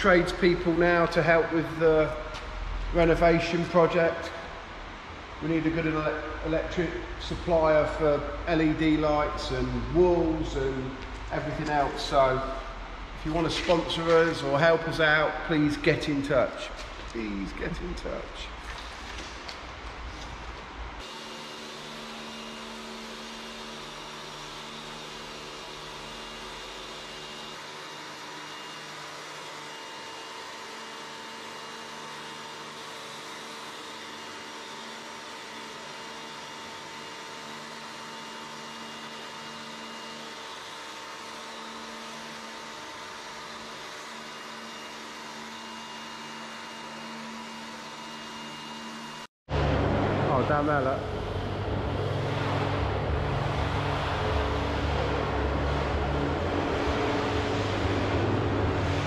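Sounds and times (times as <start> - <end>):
pressure washer running: 5.6 - 19.6, 21.0 - 49.3, 50.6 - 59.0.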